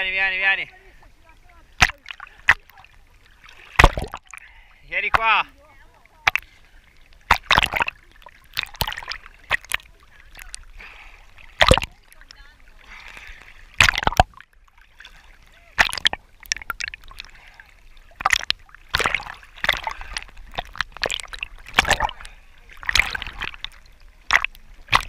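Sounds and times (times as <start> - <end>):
low water wash: 0.0 - 25.0
small waves splashing: 0.0 - 25.0.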